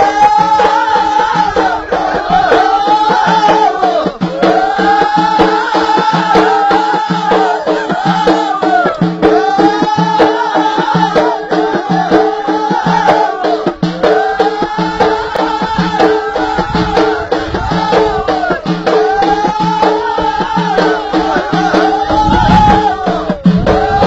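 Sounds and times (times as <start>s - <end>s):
frame drums beating: 0.0s - 24.0s
voices singing folk phrase: 0.0s - 24.0s.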